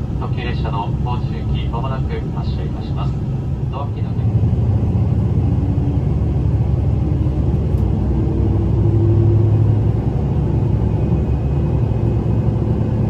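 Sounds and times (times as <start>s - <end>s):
diesel railcar running: 0.0s - 13.0s.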